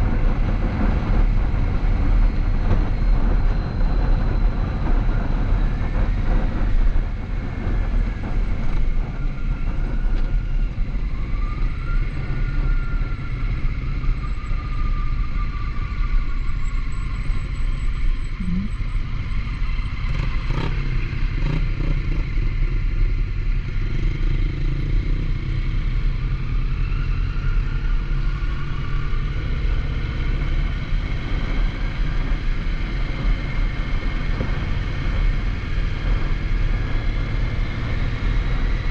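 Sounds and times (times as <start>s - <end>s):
motorcycle engine: 0.0s - 38.9s
wind rumble: 0.0s - 38.9s.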